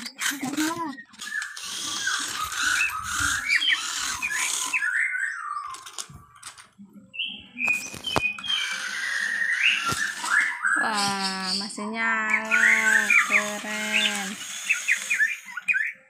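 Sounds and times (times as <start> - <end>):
toy car electric motor whining: 0.0 - 6.7, 7.7 - 16.0.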